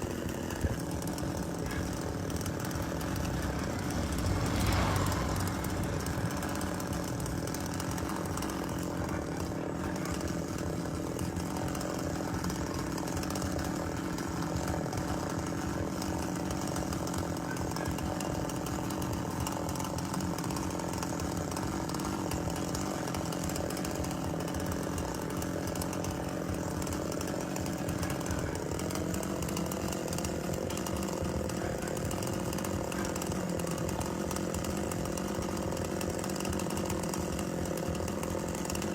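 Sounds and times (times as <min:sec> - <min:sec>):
chainsaw engine running: 0:00.0 - 0:38.9.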